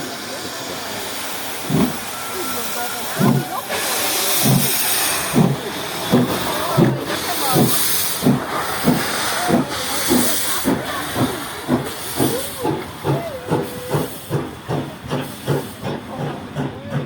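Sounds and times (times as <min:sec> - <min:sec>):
steam hissing: 0:00.0 - 0:17.0
steam train chugging beats: 0:00.0 - 0:17.0
wheels squealing on rails: 0:00.0 - 0:17.0.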